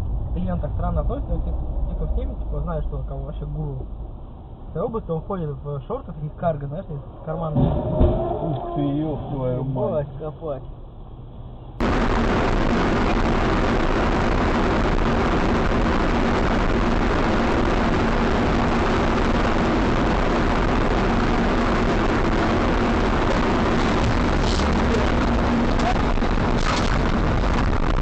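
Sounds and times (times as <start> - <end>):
moving car road and wind noise: 0.0 - 28.0.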